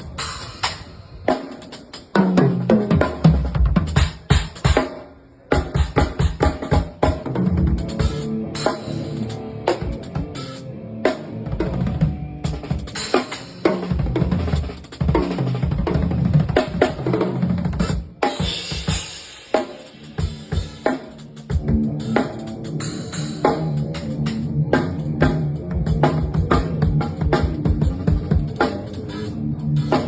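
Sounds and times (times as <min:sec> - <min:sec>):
fast drum fills: 0:00.0 - 0:10.6, 0:11.5 - 0:24.4, 0:25.2 - 0:30.0.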